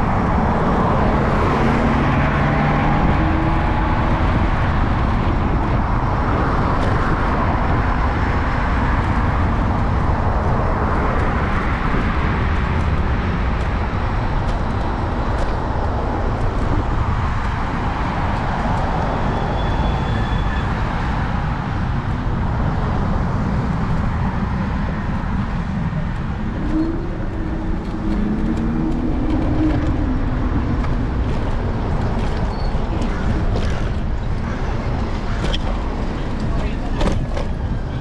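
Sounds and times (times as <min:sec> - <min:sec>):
city traffic: 0:00.0 - 0:38.0
road rumble: 0:00.0 - 0:38.0
wind on microphone: 0:00.0 - 0:38.0.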